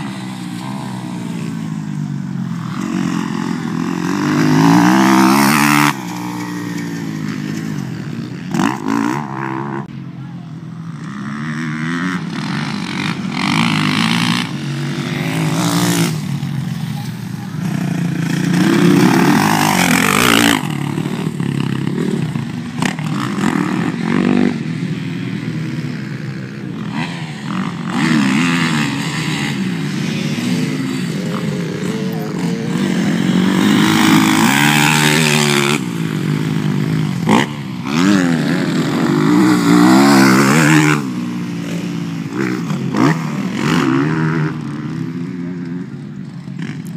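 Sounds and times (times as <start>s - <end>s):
dirt bike engine revving: 0.0s - 9.9s, 10.8s - 45.9s.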